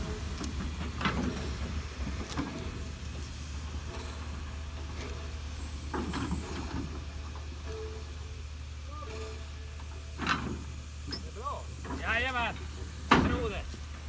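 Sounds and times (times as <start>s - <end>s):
locomotive low rumble: 0.0s - 14.0s
steam hisses: 0.0s - 14.0s.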